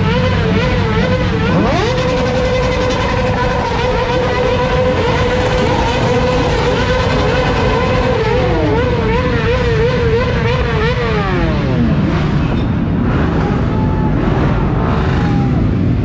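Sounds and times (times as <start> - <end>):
motorcycle engine revving: 0.0 - 16.0
motorcycles idling: 0.0 - 16.0
crowd chatter: 0.5 - 16.0.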